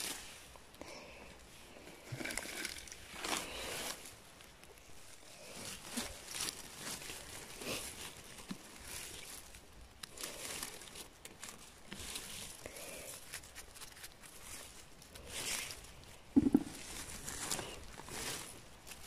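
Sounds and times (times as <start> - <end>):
rustling of grass and leaves: 0.0 - 19.0.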